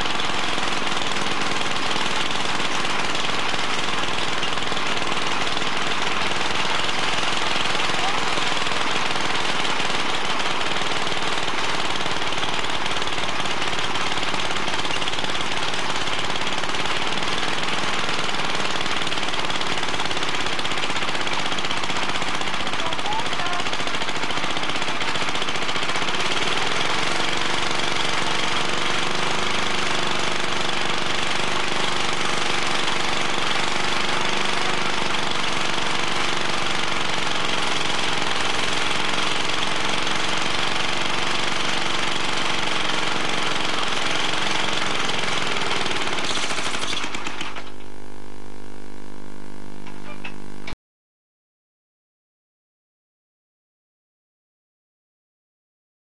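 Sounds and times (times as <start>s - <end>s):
tiller engine rattling: 0.0s - 48.1s.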